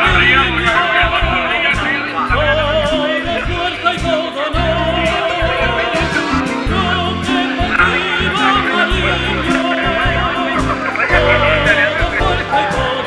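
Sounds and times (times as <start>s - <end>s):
repeated bass notes: 0.0s - 13.0s
song with singer: 0.0s - 13.0s.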